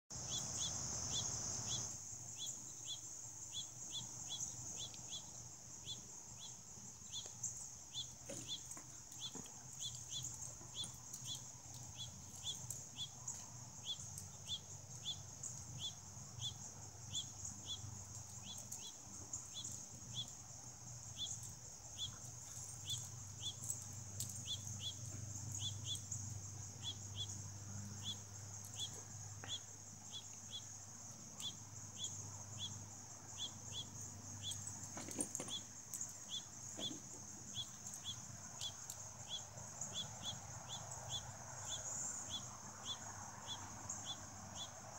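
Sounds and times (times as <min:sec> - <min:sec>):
insect chorus chirping: 0:00.1 - 0:44.9.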